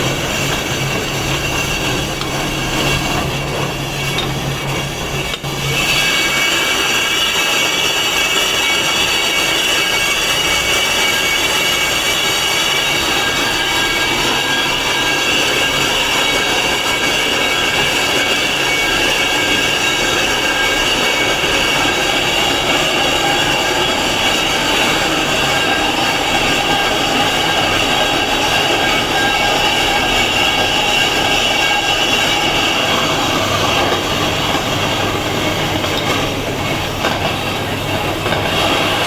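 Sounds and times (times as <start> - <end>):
power tool grinding stone: 0.0 - 39.0.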